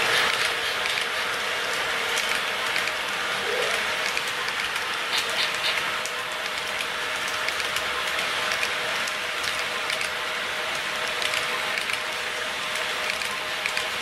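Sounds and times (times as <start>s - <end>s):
model train wheels rolling on track: 0.0s - 14.0s.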